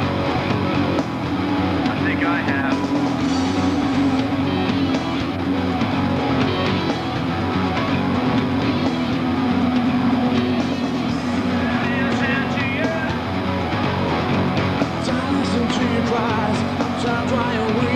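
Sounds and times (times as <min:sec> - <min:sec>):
rock music with guitar: 0:00.0 - 0:17.9.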